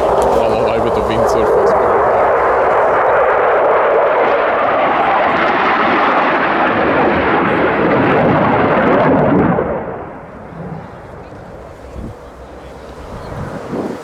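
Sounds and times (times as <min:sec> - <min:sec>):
loud fighter jet engine: 0:00.0 - 0:14.0.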